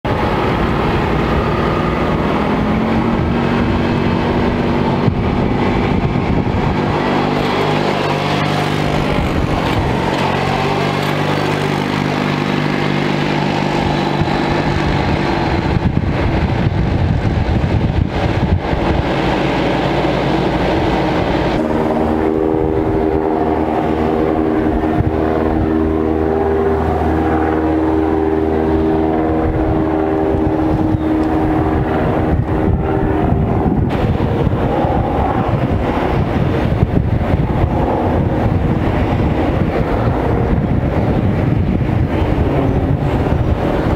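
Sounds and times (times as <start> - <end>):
vehicle engines running: 0.0 - 43.9.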